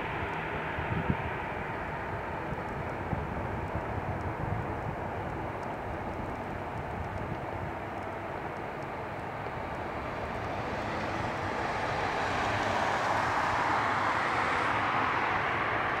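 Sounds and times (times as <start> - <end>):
jet airliner engines rushing: 0.0 - 16.0.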